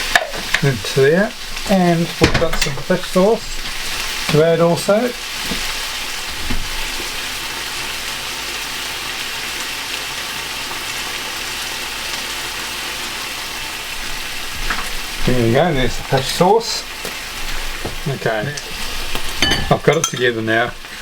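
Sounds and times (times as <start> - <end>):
chicken sizzling in a pan: 0.0 - 21.0.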